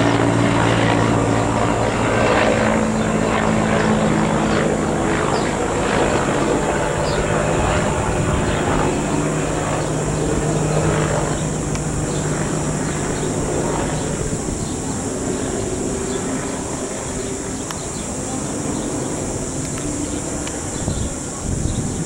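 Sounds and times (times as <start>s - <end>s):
helicopter rotor and turbine drone: 0.0s - 22.0s.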